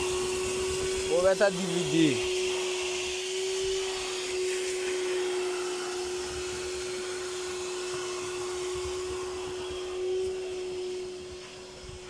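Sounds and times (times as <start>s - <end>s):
rushing air hiss: 0.0s - 12.0s
vacuum cleaner motor whine: 0.0s - 12.0s.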